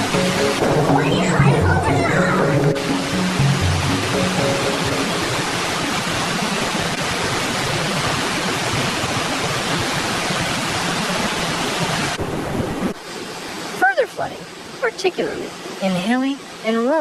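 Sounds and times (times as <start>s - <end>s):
floodwater rushing: 0.0s - 16.7s.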